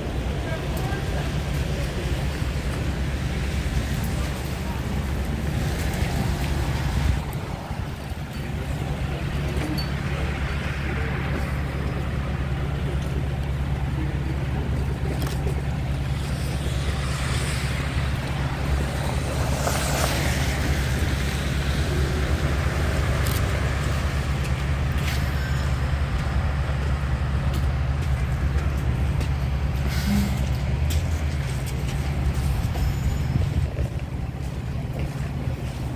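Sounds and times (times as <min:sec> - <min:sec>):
bus engine idling: 0:00.0 - 0:35.9.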